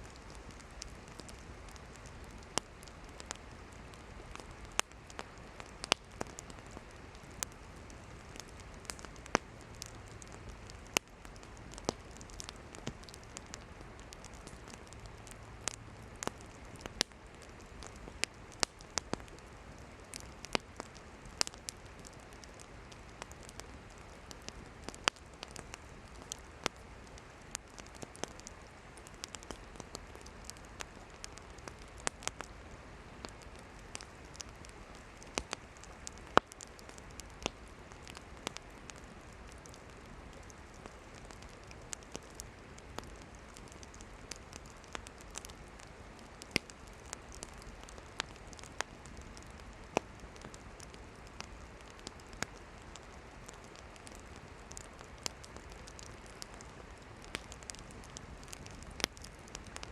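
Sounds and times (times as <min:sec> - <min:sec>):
campfire crackling and popping: 0:00.0 - 0:59.9
soft hiss: 0:00.0 - 0:59.9.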